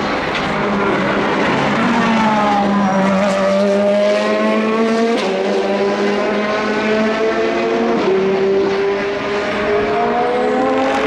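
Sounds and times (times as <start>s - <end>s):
race car engine at high revs: 0.3s - 11.0s.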